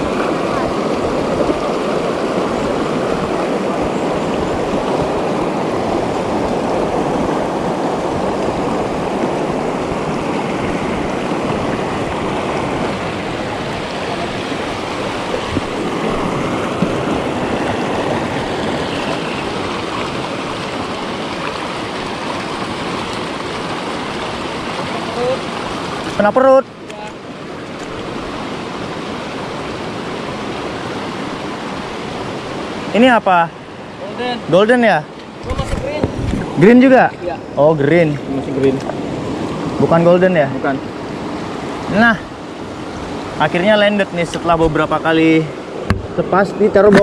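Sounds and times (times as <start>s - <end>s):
river rushing over stones: 0.0s - 47.0s.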